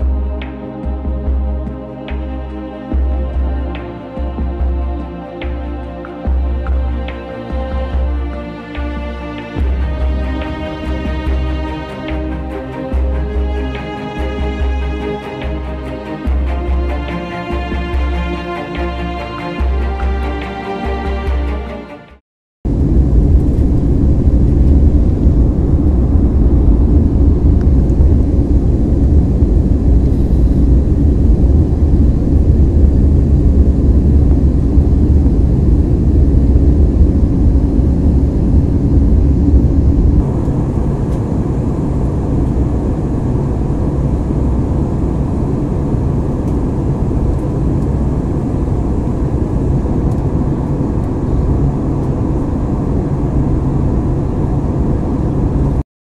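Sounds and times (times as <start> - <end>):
aircraft engine drone in cabin: 0.0 - 21.7, 22.7 - 55.8.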